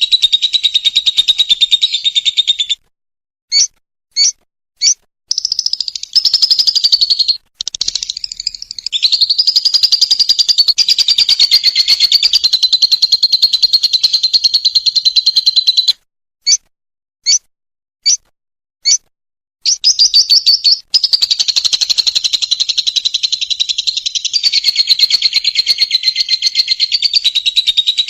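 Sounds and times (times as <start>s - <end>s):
bird sharp chirps: 0.0s - 2.8s, 3.5s - 16.6s, 17.2s - 18.2s, 18.8s - 28.0s
lovebird chattering trill: 0.0s - 2.8s, 3.5s - 15.9s, 19.7s - 28.0s.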